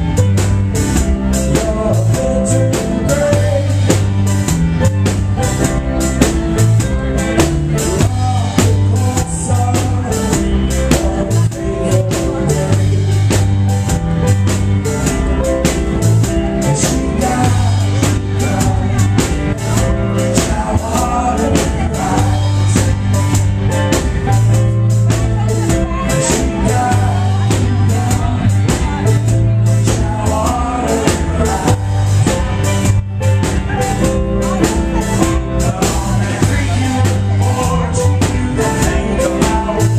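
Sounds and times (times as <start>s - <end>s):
bass guitar: 0.0s - 39.9s
drum kit beat: 0.0s - 39.9s
electric guitars: 0.0s - 39.9s
keyboard: 0.0s - 39.9s.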